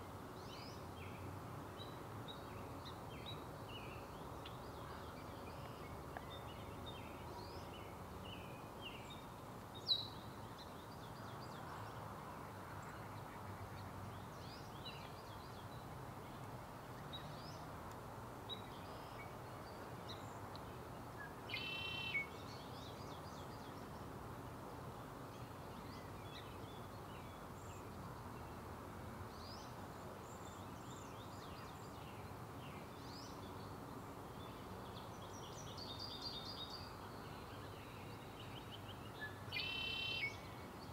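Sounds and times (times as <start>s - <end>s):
steady low hiss: 0.0s - 40.9s.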